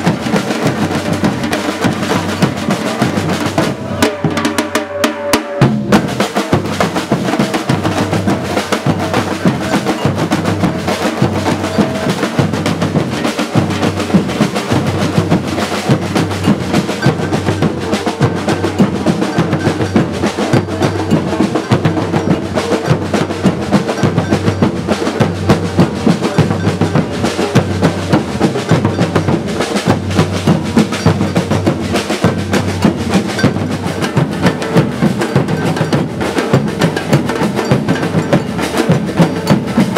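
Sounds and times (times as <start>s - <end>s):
drums and percussion beat: 0.0s - 39.9s.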